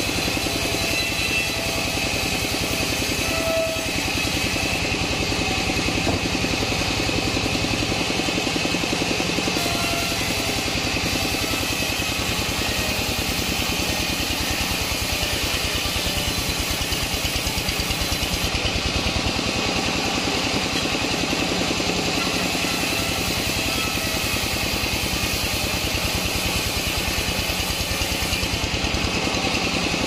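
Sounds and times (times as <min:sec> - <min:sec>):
circular saw ripping log: 0:00.0 - 0:30.0.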